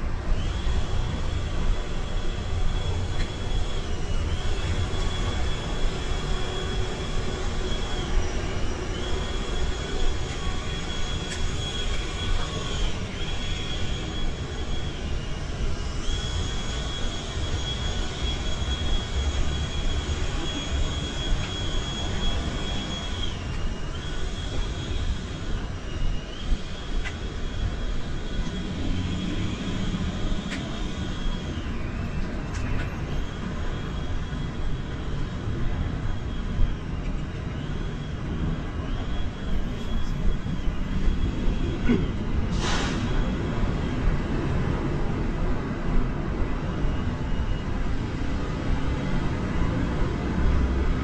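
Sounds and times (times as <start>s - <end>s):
high-pitched whine: 0.0s - 51.0s
low rumble of traffic: 0.0s - 51.0s.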